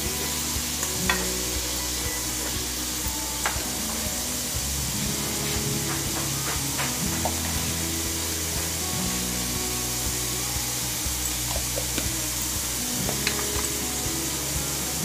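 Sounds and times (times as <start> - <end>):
background music: 0.0 - 15.0
food sizzling in a frying pan: 0.0 - 15.0.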